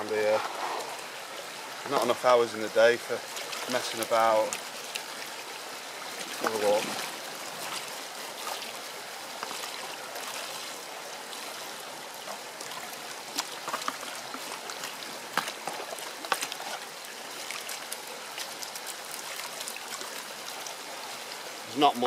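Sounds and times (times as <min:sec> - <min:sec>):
water sloshing and splashing: 0:00.0 - 0:21.8
shallow stream running: 0:00.0 - 0:22.0.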